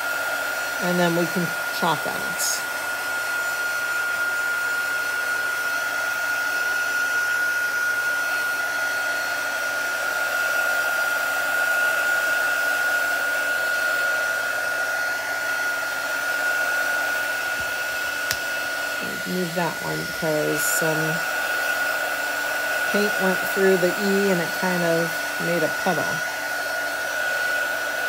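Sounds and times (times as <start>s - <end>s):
heat tool blowing air: 0.0s - 28.0s.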